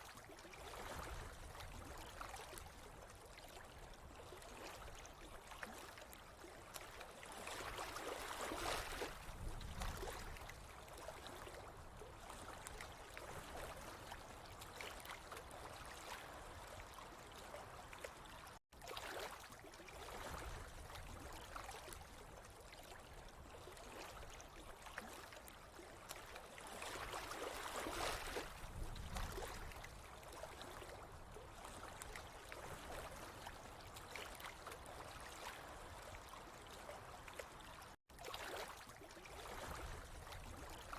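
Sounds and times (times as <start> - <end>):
water trickling and gurgling: 0.0 - 40.9.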